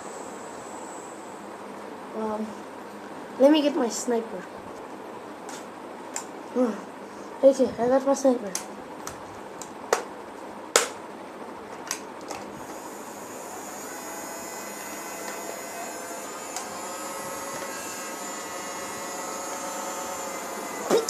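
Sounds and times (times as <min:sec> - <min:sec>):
machine hum with faint whine: 0:00.0 - 0:21.0.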